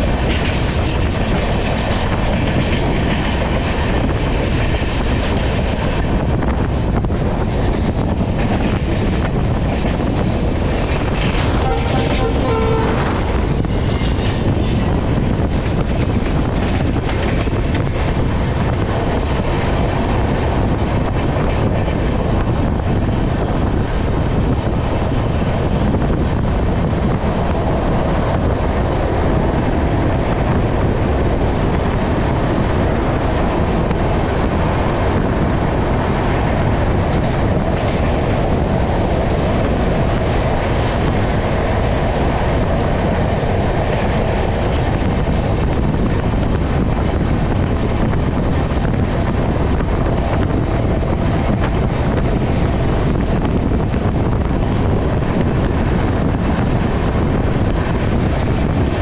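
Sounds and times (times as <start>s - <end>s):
train wheels rumbling on rail: 0.0s - 59.0s
wind buffeting microphone: 0.0s - 59.0s.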